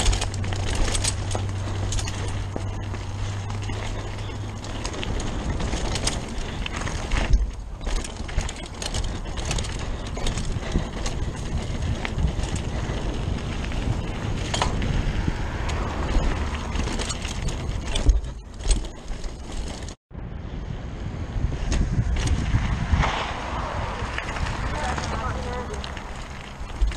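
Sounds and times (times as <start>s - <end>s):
bike rattling: 0.0s - 26.9s
bike tyres rolling over dirt: 0.0s - 26.9s.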